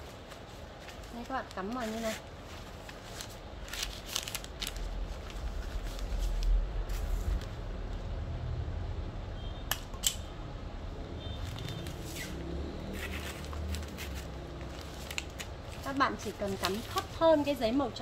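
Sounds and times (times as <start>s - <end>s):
plastic wrapping rustling: 0.0s - 7.8s, 11.3s - 18.0s.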